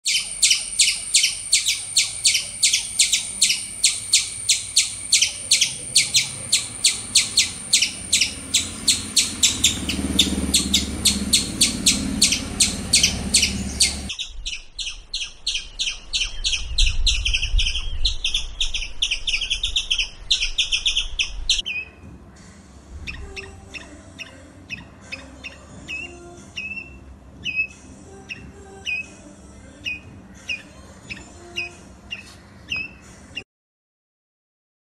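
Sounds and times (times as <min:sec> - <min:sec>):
squirrel chirping: 0:00.0 - 0:22.0, 0:23.0 - 0:29.2, 0:29.8 - 0:33.4.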